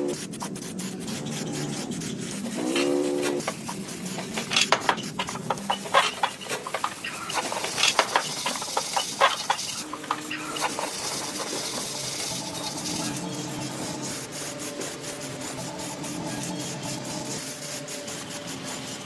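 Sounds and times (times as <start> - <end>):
sharp clicks and scrapes: 0.0 - 19.0
small motor whirring: 0.0 - 19.0.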